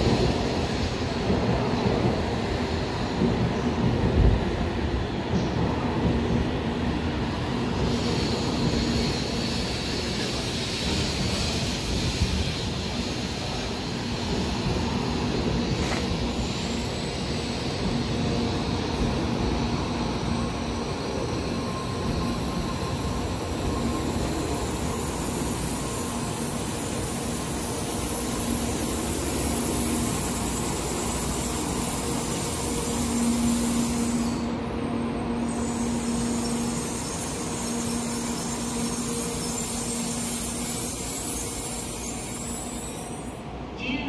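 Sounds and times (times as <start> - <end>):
train rolling to a stop: 0.0 - 43.8.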